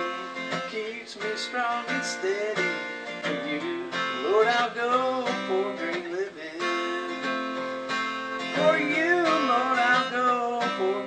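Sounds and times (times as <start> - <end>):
person singing: 0.0 - 7.6, 8.4 - 11.0
strummed acoustic guitar: 0.0 - 11.0.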